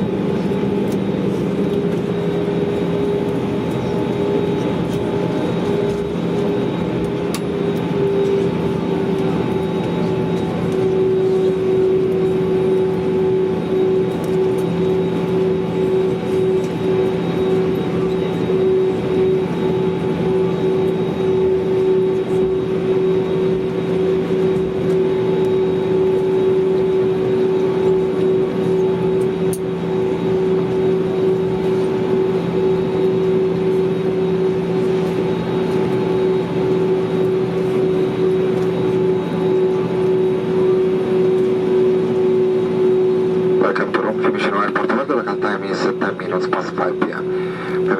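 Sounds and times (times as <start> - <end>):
aircraft cabin engine and airflow noise: 0.0 - 47.9
constant two-note hum: 0.1 - 47.9.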